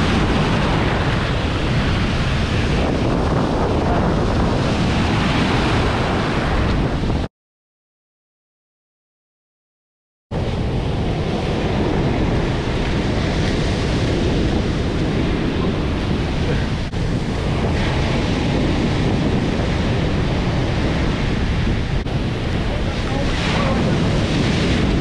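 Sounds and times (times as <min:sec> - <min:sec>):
ocean surf breaking: 0:00.0 - 0:07.3, 0:10.4 - 0:25.0
wind buffeting microphone: 0:00.0 - 0:07.3, 0:10.3 - 0:25.0.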